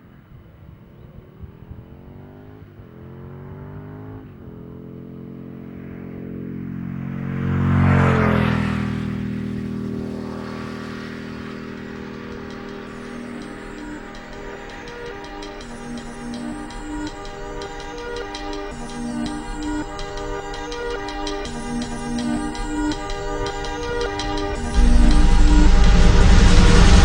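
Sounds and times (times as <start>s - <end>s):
motorcycle accelerating and passing: 0.0s - 27.0s.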